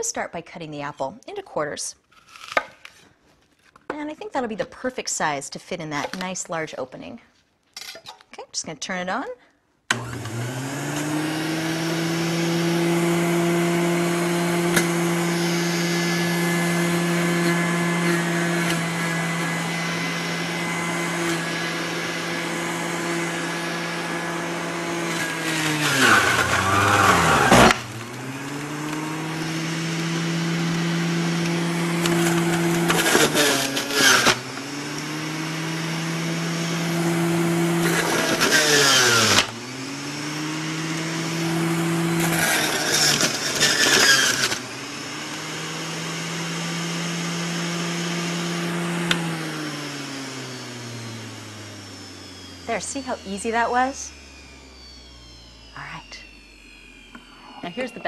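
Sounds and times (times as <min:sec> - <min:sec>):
juicer motor humming: 0:09.9 - 0:58.0
juicer shredding produce: 0:09.9 - 0:58.0.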